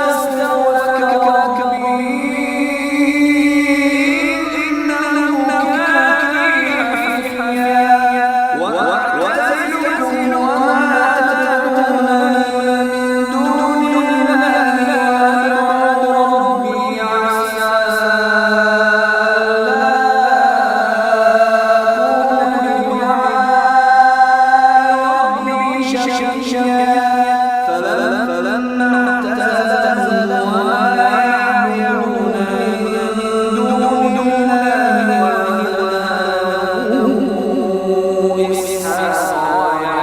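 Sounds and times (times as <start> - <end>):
man chanting melodically: 0.0 - 40.0.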